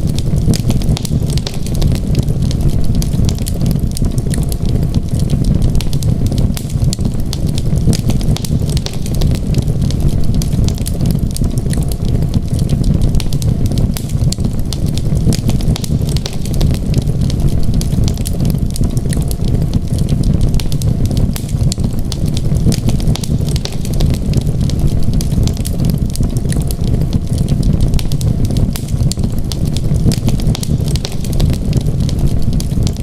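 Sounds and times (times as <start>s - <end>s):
fire crackling and popping: 0.0s - 33.0s
fireplace fire roaring: 0.0s - 33.0s.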